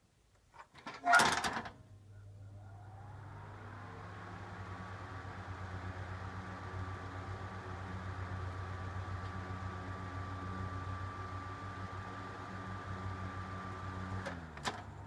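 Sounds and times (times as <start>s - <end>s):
exhaust fan motor spinning up: 2.1s - 15.0s.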